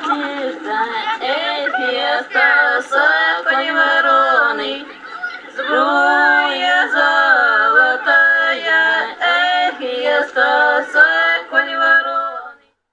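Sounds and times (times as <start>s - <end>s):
person singing unaccompanied: 0.0s - 12.7s.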